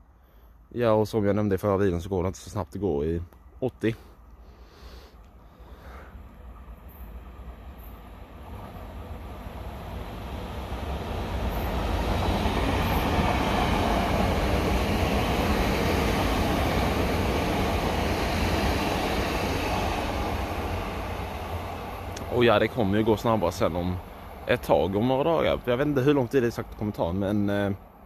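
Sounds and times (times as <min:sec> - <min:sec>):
train wheels rumbling on rail: 0:05.5 - 0:28.0.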